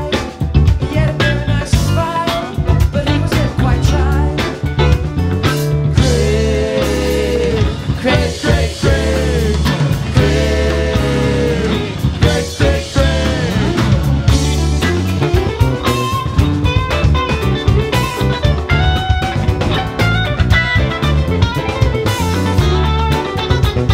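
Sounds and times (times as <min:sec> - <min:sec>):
rock band playing: 0:00.0 - 0:23.9
wavering lead guitar notes: 0:02.2 - 0:23.9.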